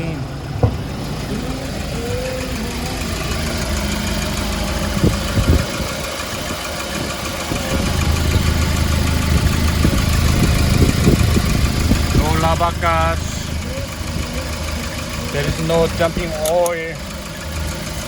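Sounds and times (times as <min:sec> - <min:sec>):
diesel truck engine idling: 0:00.0 - 0:18.0
sharp engine knocks: 0:00.4 - 0:18.0.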